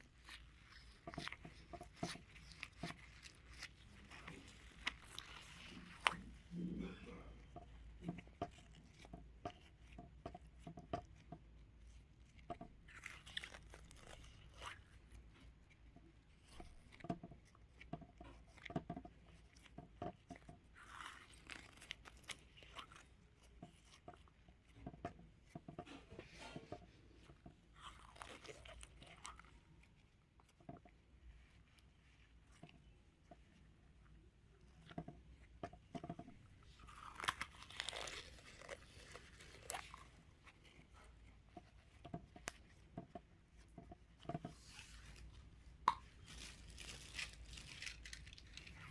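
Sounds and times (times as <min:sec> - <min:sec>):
slime squishing: 0:00.0 - 0:48.9.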